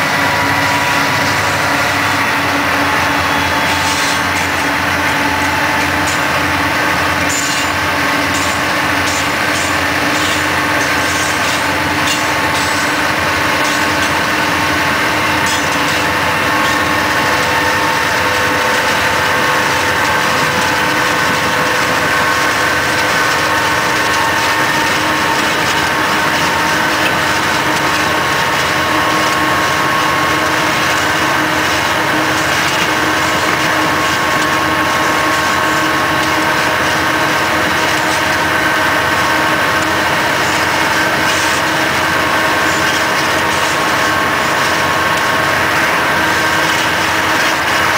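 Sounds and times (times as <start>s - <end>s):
locomotives running under power: 0.0s - 47.9s.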